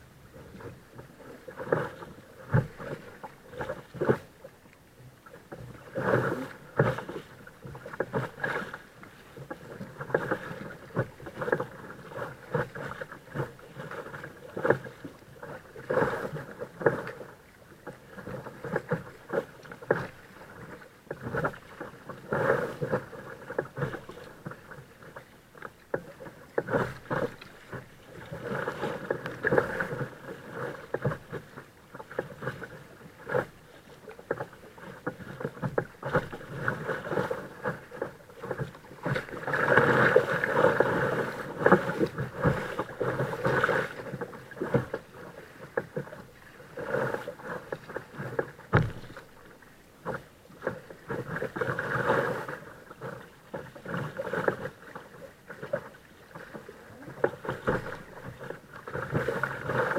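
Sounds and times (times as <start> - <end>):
paddle splashing: 0.0 - 59.9
water slapping against hull: 0.0 - 59.9.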